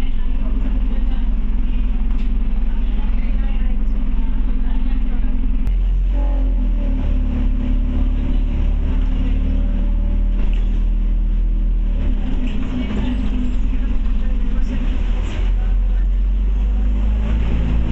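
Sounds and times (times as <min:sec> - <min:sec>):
bus diesel engine: 0:00.0 - 0:17.9.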